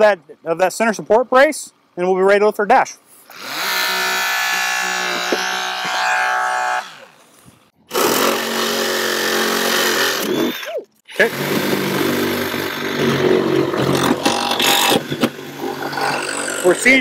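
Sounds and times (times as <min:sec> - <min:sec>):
hydraulic power unit droning: 0:03.2 - 0:17.0.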